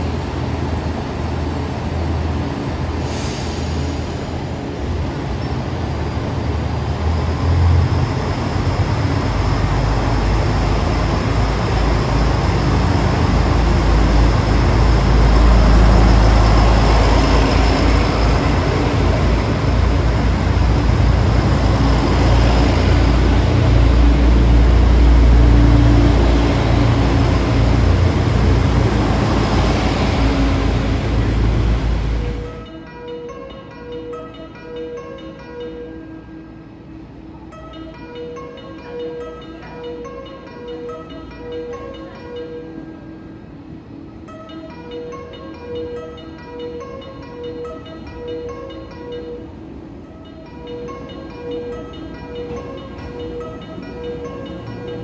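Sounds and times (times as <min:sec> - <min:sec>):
diesel railcar rumble: 0:00.0 - 0:33.0, 0:33.6 - 0:55.0.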